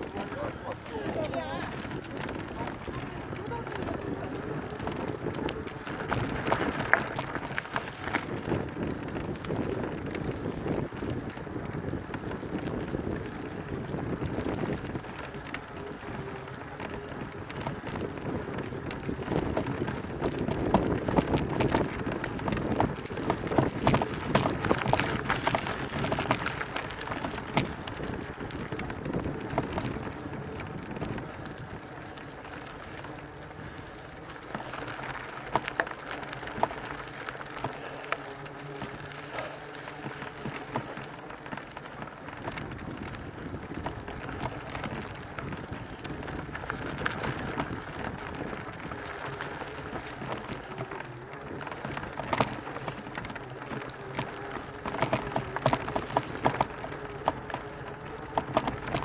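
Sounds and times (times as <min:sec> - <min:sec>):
wind on microphone: 0:00.0 - 0:41.1, 0:41.8 - 0:59.0
bike tyres crunching over stones: 0:00.0 - 0:59.0.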